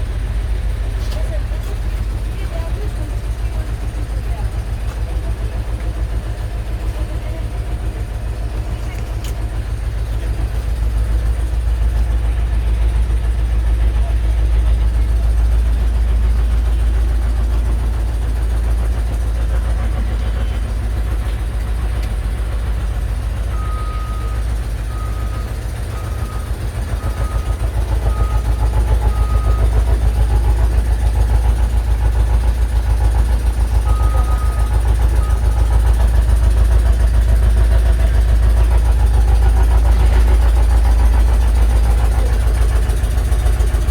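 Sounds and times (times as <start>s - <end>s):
diesel engine rumbling: 0.0s - 43.9s.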